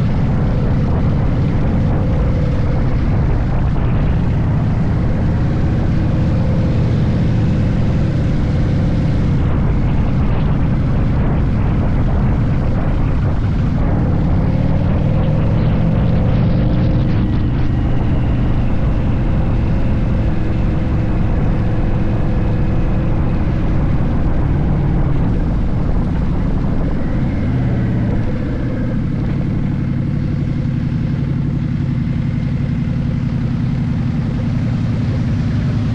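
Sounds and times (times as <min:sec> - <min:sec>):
motorcycle engine running: 0:00.0 - 0:35.9
road and wind noise: 0:00.0 - 0:35.9.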